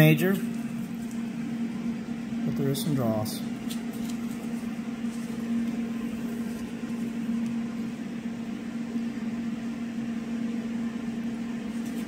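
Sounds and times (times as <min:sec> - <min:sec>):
fan-like hiss: 0:00.0 - 0:12.0
machine hum: 0:00.0 - 0:12.0.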